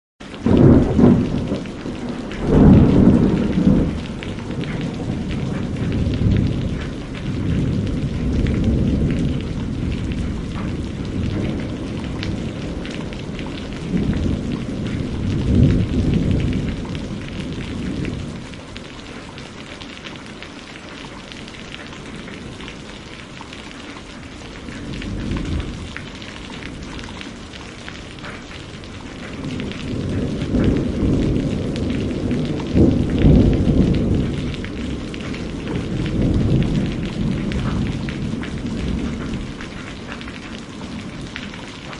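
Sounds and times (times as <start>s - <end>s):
heavy rain: 0.2s - 41.9s
rolling thunder: 0.3s - 19.3s, 24.2s - 41.9s.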